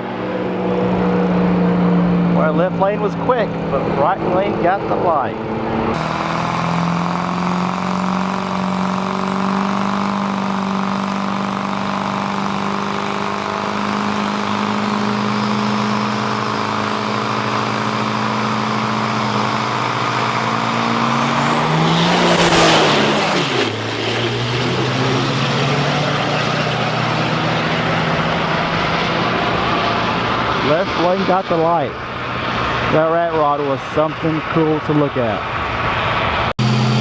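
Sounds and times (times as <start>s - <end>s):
diesel truck engines running: 0.0s - 37.0s.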